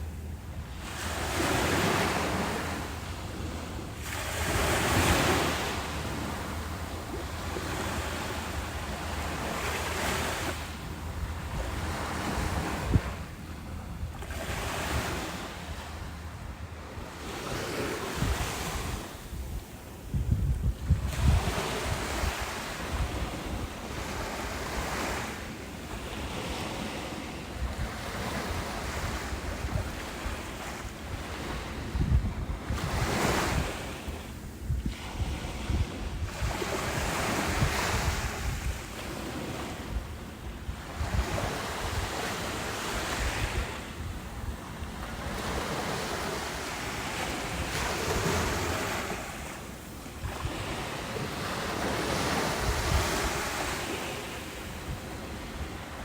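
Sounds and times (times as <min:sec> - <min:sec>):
ocean waves breaking on beach: 0:00.0 - 0:56.0
wind rumbling on microphone: 0:00.0 - 0:56.0.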